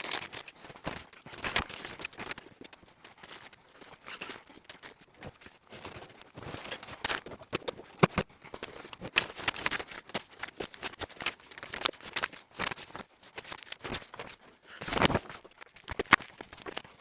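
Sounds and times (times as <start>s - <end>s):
packaging rustling and crinkling: 0.0s - 17.0s
small items clicking: 0.0s - 17.0s.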